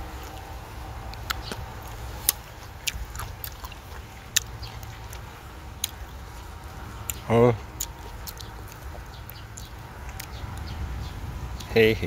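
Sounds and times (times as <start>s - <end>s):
person chewing: 0.0s - 10.8s.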